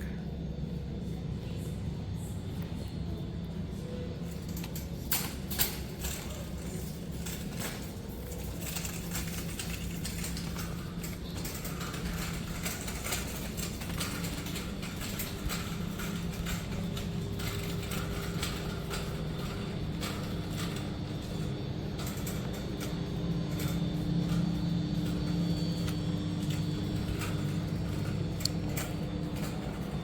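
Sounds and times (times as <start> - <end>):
steady low hum: 0.0 - 30.0
small clicks and rattles: 4.2 - 30.0.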